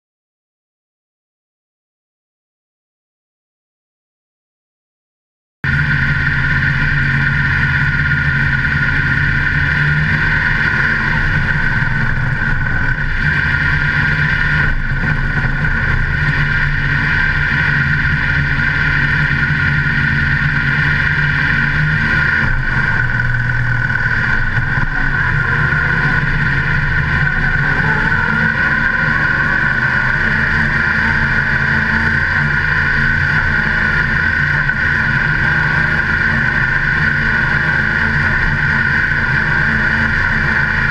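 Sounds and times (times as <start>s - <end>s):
race car engine running: 5.6s - 40.9s.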